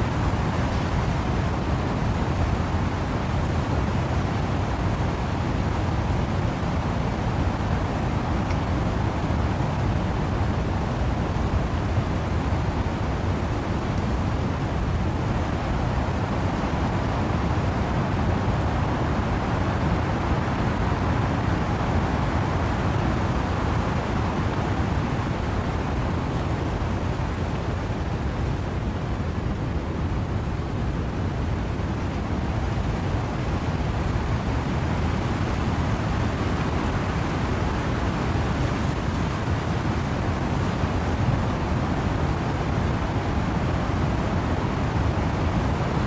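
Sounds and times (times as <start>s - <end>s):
rain: 0.0s - 46.0s
wind rushing through trees: 0.0s - 46.0s.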